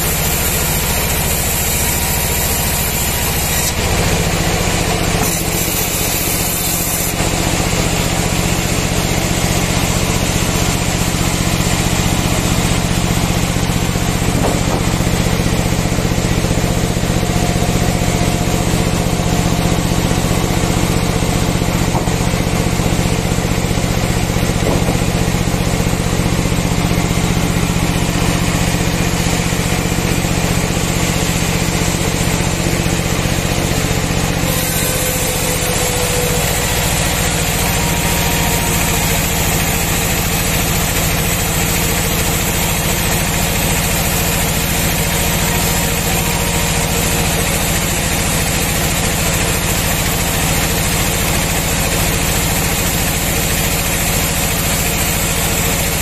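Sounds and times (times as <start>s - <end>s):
band saw motor hum: 0.0s - 56.0s
saw blade cutting log: 0.0s - 56.0s.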